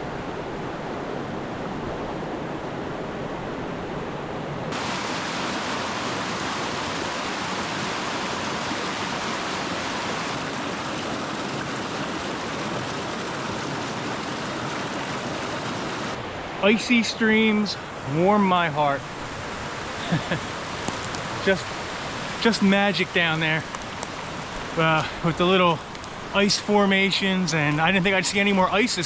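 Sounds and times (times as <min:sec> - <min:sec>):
stream rushing over rocks: 0:04.7 - 0:29.0.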